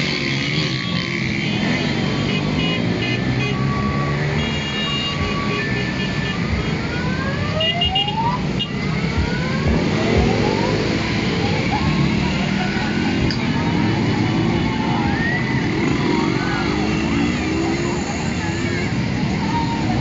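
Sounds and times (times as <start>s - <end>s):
motorcycle engines running: 0.0s - 7.5s, 8.1s - 20.0s
motorcycle engines revving: 0.0s - 20.0s
road rumble: 0.0s - 20.0s.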